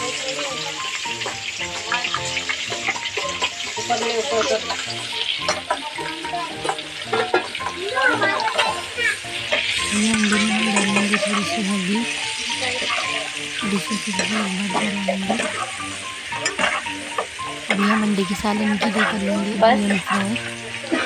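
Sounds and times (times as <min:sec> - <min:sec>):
eggs sizzling in hot oil: 0:00.0 - 0:21.0.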